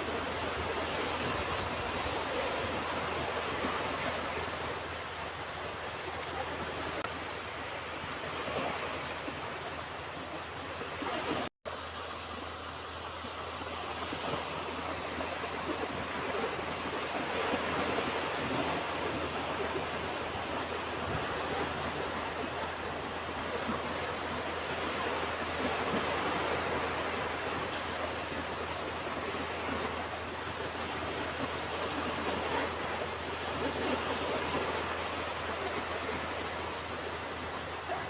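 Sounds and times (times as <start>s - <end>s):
ocean waves washing onto beach: 0.0s - 38.0s.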